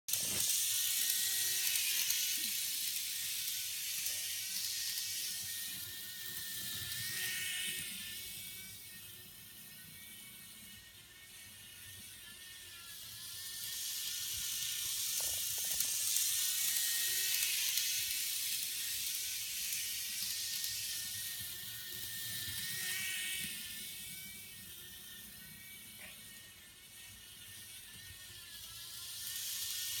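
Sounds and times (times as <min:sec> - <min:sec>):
model tram motor whir: 0:00.1 - 0:30.0.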